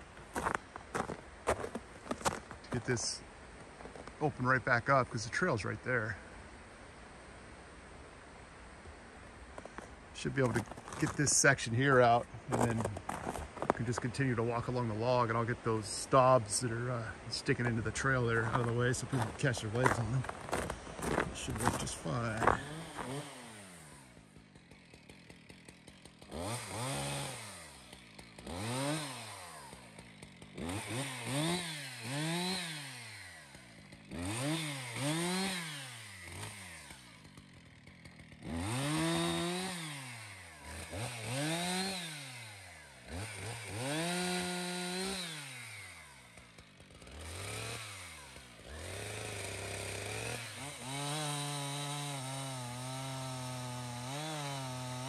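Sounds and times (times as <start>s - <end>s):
chainsaw revving: 0.0s - 6.4s, 9.5s - 55.0s.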